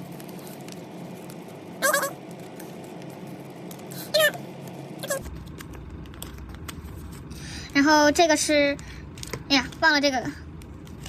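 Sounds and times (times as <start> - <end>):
paper and stickers handled: 0.0 - 11.0.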